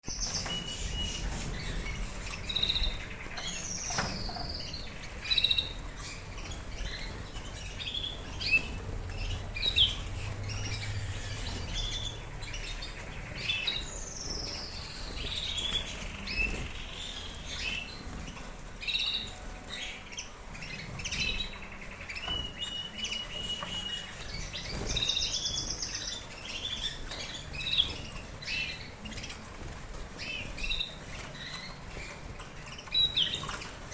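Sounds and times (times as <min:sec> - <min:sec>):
canaries chirping and singing: 0:00.0 - 0:33.9.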